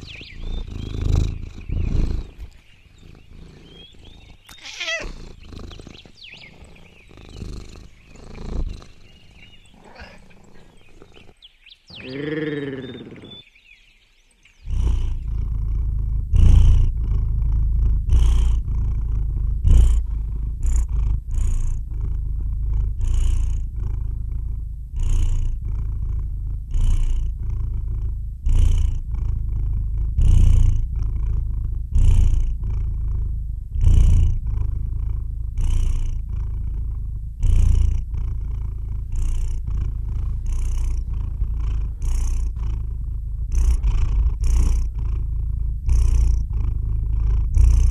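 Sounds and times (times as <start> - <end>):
cat purring: 0.0 - 13.4, 14.6 - 47.9.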